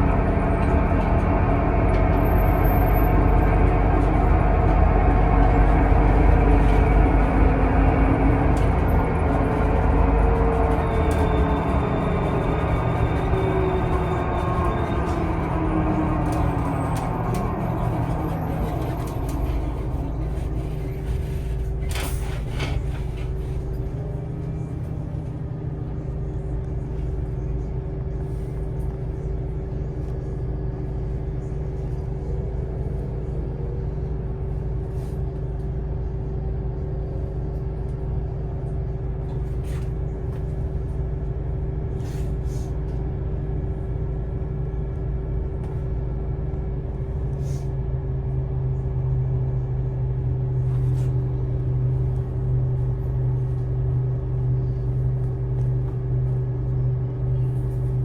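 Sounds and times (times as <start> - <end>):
vehicle interior rumble: 0.0 - 58.0.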